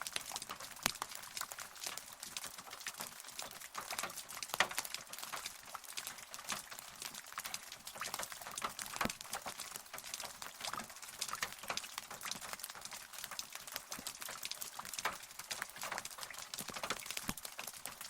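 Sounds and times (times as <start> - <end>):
raindrops ticking: 0.0 - 18.0.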